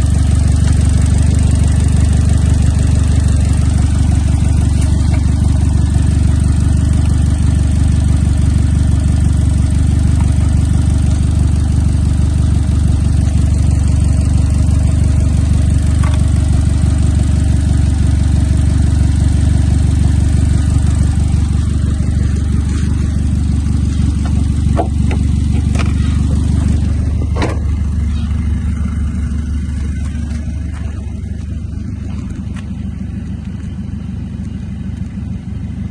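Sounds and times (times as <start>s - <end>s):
petrol engine running: 0.0s - 35.9s.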